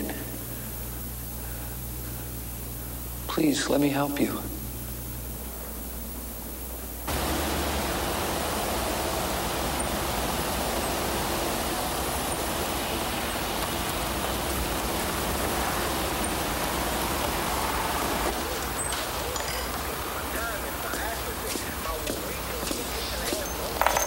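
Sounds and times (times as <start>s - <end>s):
steady rushing noise: 0.0s - 23.9s.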